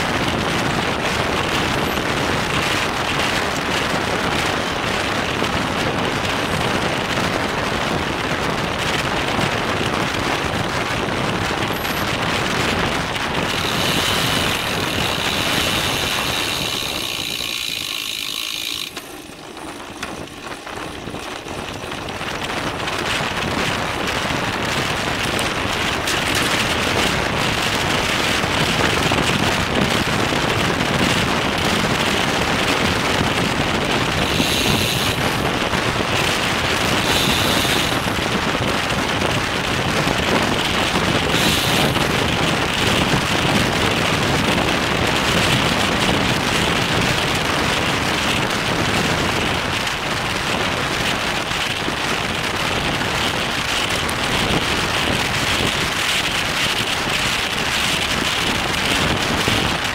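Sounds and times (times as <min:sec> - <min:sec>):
road noise: 0:00.0 - 0:59.9
rushing wind: 0:00.0 - 0:59.9.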